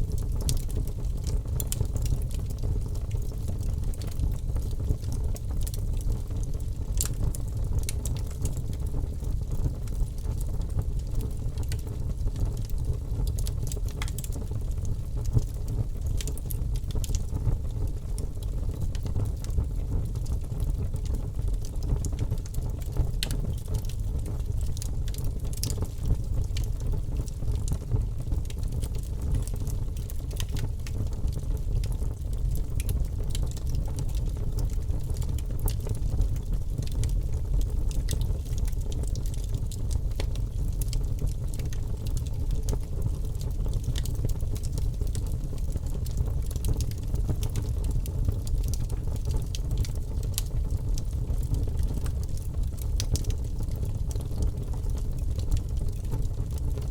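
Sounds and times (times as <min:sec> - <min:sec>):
fire crackling: 0:00.0 - 0:56.9.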